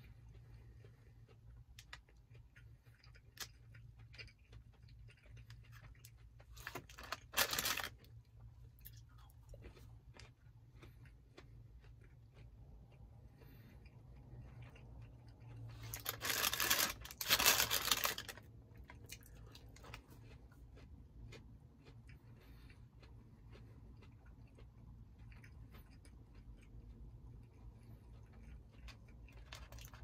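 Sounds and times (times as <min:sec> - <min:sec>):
person chewing: 0:00.0 - 0:30.0
steady low hum: 0:00.0 - 0:30.0.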